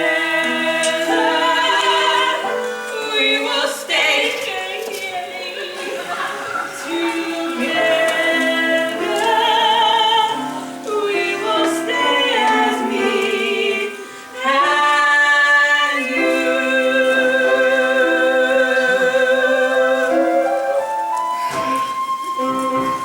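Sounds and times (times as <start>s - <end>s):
voices singing musical song: 0.0s - 23.0s.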